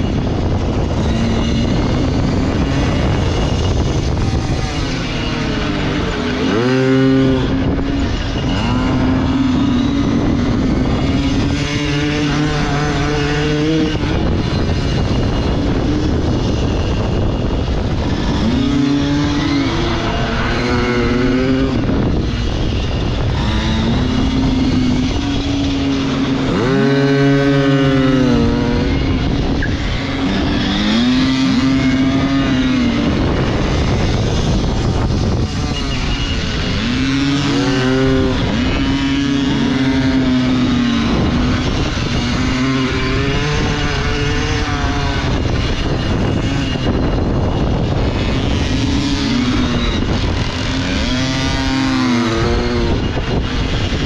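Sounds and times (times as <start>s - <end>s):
small motorbike engine revving: 0.0s - 54.0s
wind noise: 0.0s - 54.0s.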